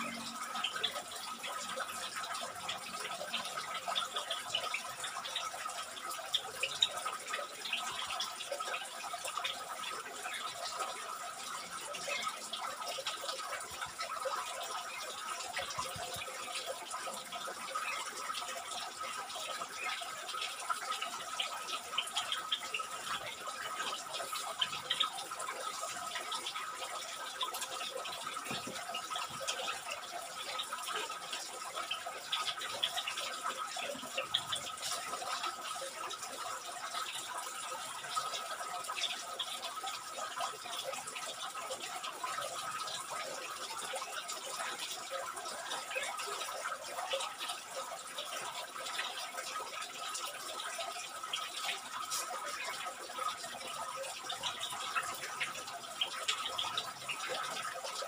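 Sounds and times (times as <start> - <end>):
trickling running water: 0.0 - 58.0.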